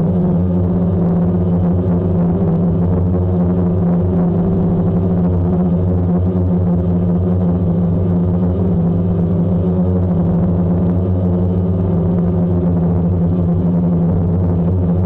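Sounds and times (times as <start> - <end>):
sustained synthesizer drone: 0.0 - 15.0.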